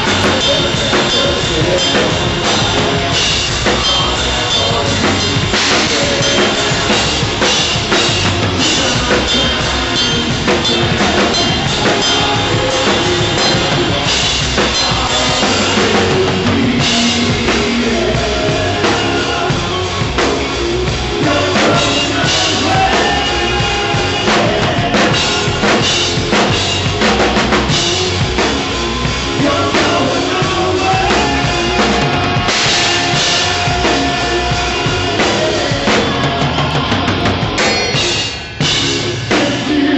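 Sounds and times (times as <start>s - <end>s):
band instruments holding sustained notes: 0.0s - 39.9s
drum kit playing rock beat: 0.0s - 39.9s.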